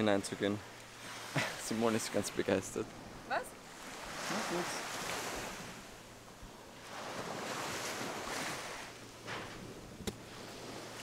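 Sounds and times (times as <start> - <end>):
waves washing onto beach: 0.0 - 11.0.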